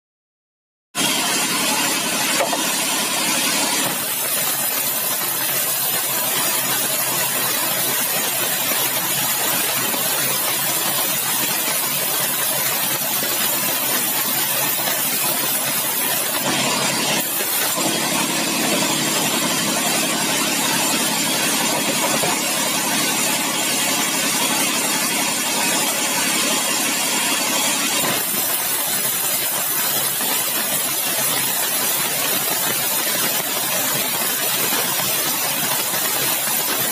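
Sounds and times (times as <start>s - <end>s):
band saw cutting wood: 1.0s - 36.9s.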